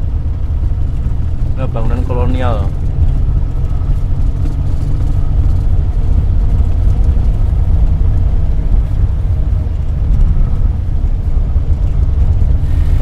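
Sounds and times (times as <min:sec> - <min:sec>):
van engine running: 0:00.0 - 0:13.0.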